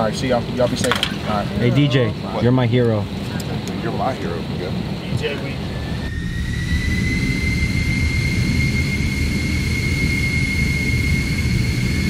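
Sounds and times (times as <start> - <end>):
jet engine whine: 0.0 - 12.0
low engine rumble: 0.0 - 12.0.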